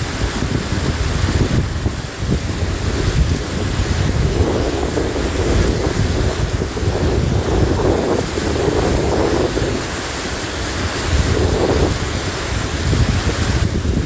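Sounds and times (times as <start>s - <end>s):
stream water rushing: 0.0s - 14.0s
wind buffeting microphone: 0.0s - 14.0s.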